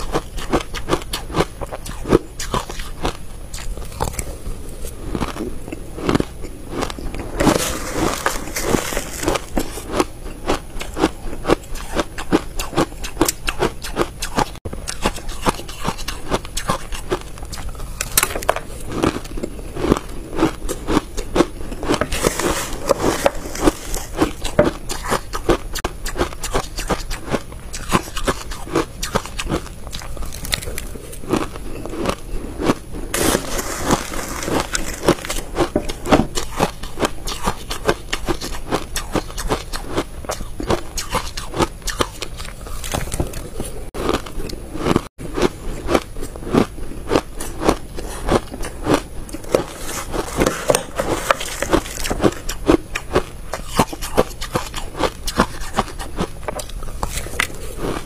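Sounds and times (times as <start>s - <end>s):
chewing crushed ice: 0.0s - 58.0s.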